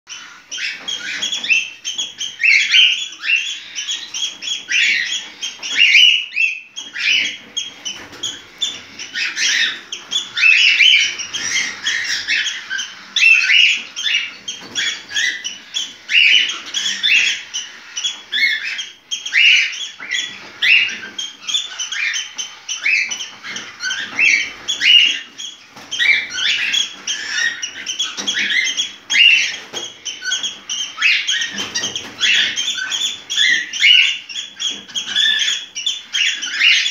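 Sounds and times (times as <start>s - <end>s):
cockatiel chirps and whistles: 0.2s - 36.9s.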